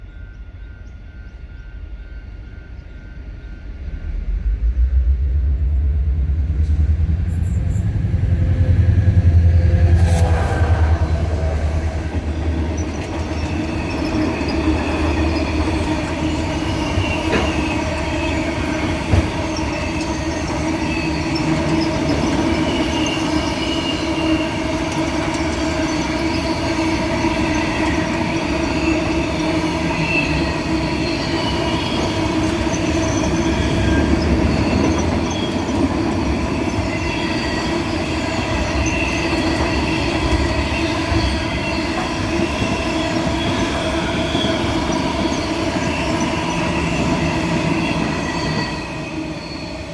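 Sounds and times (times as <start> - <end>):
train wheels squealing: 0.0 - 49.9.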